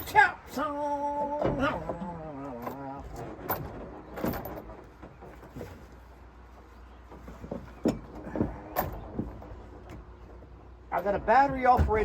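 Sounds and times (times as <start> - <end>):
low steady rumble: 0.0 - 12.0
gear knocking and clunking: 1.2 - 6.0, 6.6 - 12.0.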